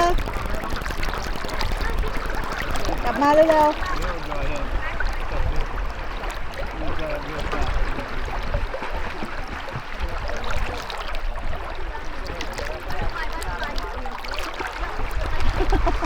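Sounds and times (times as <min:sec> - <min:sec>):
faint distant voices: 0:00.0 - 0:16.0.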